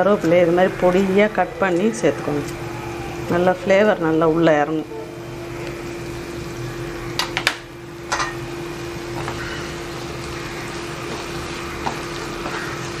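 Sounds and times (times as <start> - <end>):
masala frying in a pan: 0.0 - 13.0
steady mechanical hum: 0.0 - 13.0.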